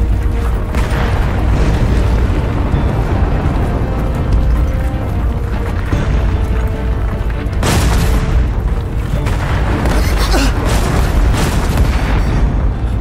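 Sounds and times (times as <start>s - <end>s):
deep volcanic rumble: 0.0s - 13.0s
dramatic background music: 0.0s - 13.0s.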